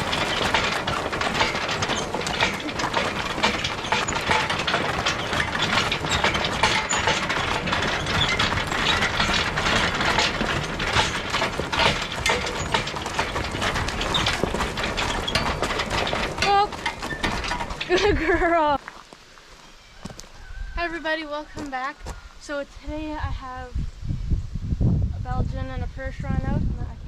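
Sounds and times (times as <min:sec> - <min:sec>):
excavator track clattering and scraping: 0:00.0 - 0:22.2.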